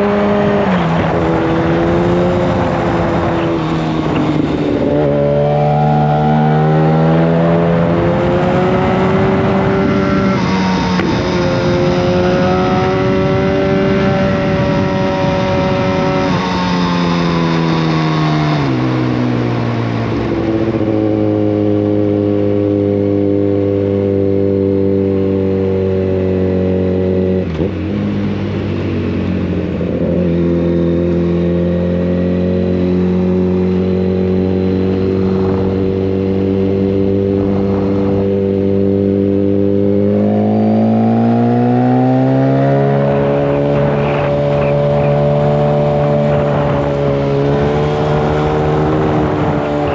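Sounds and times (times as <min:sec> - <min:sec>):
motorcycle engine cruising: 0:00.0 - 0:49.9.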